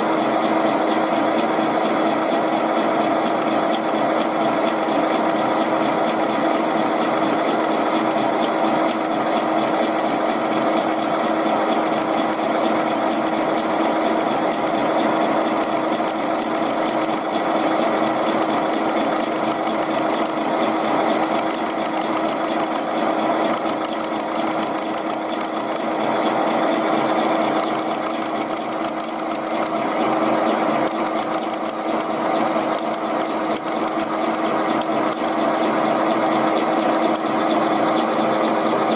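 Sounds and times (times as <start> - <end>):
motor hum: 0.0 - 38.9
end mill chattering on metal: 2.6 - 38.9.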